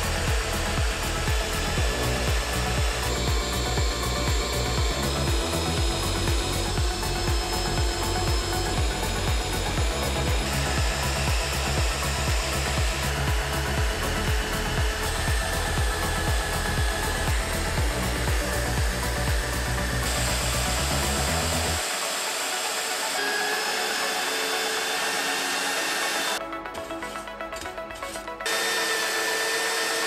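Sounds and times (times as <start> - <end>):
background music with a beat: 0.0 - 30.0
drill motor whirring: 0.0 - 30.0.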